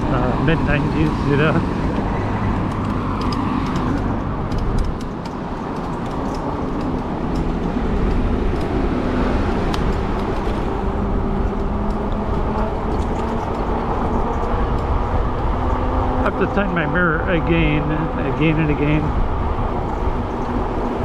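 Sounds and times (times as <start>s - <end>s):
motor traffic: 0.0s - 21.0s
wind and road noise: 0.0s - 21.0s.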